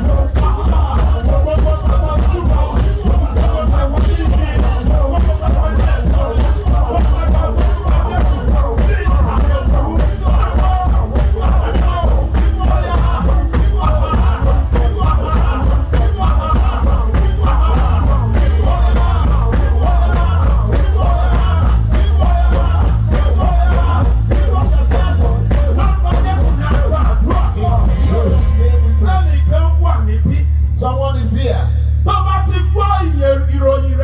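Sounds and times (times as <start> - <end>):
live gospel band music: 0.0 - 34.0
voices singing and calling out: 0.0 - 34.0.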